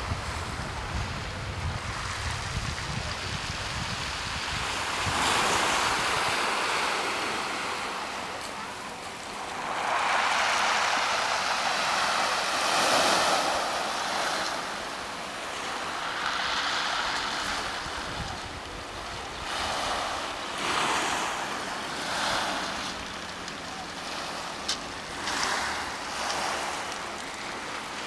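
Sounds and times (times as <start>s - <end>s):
waves washing onto pebbles: 0.0s - 28.0s.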